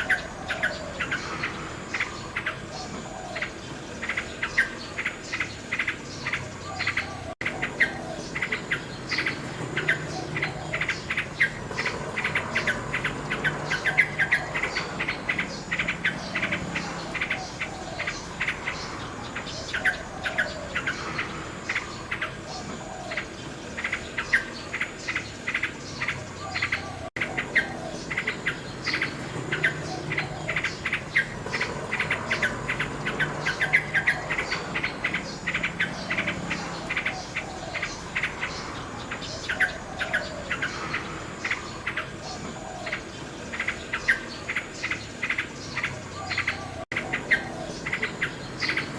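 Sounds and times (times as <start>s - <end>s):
nightingale singing: 0.0s - 48.9s.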